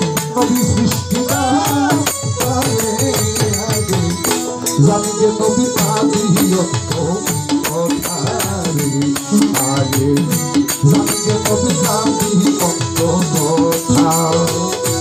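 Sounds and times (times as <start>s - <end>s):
electronic keyboard: 0.0s - 15.0s
hand drums: 0.0s - 15.0s
rattling percussion: 0.0s - 15.0s.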